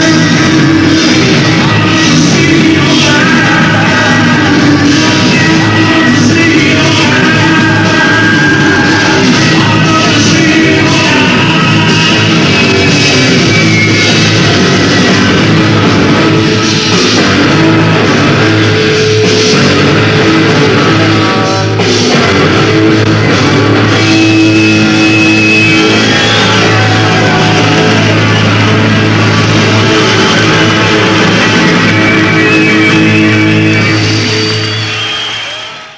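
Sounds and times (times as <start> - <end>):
rock band playing live: 0.0 - 35.9.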